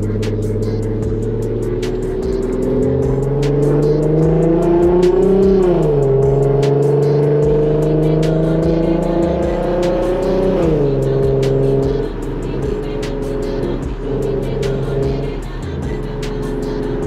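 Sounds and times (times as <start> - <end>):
car engine accelerating: 0.0 - 17.0
music beat with hi-hat: 0.0 - 17.0.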